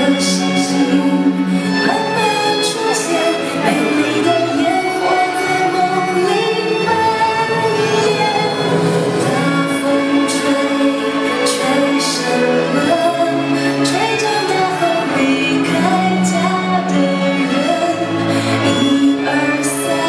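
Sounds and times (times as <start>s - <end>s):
music with singing: 0.0s - 20.0s.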